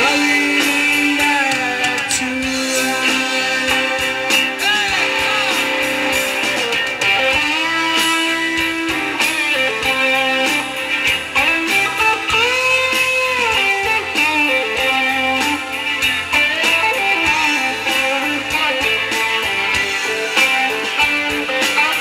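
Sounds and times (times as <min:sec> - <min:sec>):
electric guitar bending notes: 0:00.0 - 0:22.0
live rock band playing: 0:00.0 - 0:22.0.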